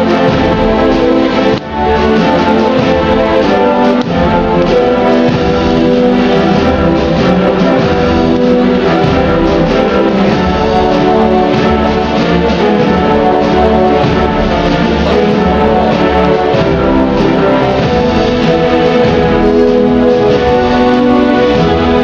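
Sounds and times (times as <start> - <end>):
orchestral music with brass: 0.0 - 22.0.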